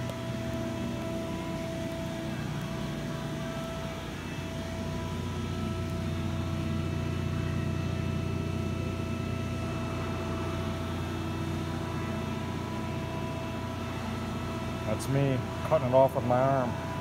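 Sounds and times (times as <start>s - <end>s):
faint whining tones: 0.0s - 17.0s
hydraulic machine hum: 0.0s - 17.0s.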